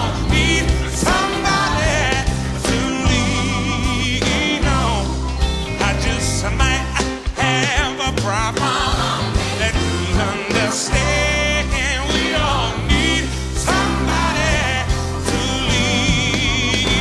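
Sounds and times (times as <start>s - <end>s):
song with sung vocal and band: 0.0s - 17.0s.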